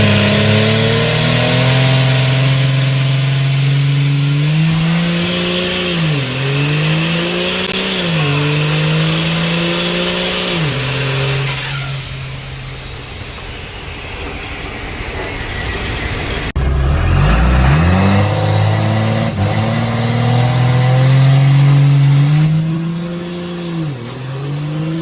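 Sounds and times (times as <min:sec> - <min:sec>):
diesel truck engine revving: 0:00.0 - 0:13.8, 0:15.7 - 0:25.0
high turbo whistle: 0:00.0 - 0:16.6, 0:17.2 - 0:25.0.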